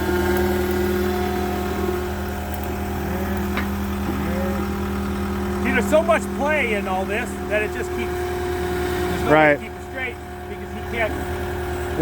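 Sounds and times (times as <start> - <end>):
auger engine running: 0.0 - 12.0.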